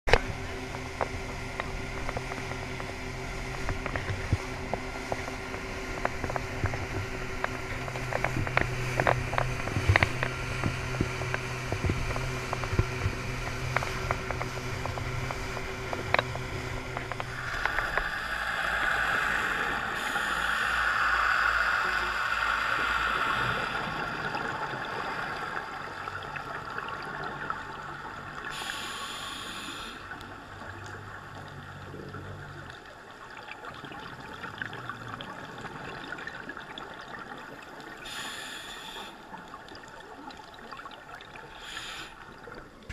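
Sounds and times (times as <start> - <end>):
outboard motors running: 0.1 - 42.9.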